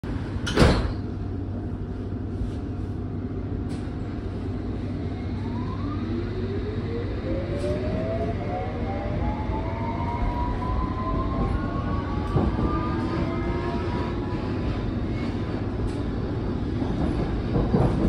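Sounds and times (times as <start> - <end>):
train carriage rumble: 0.0 - 18.0.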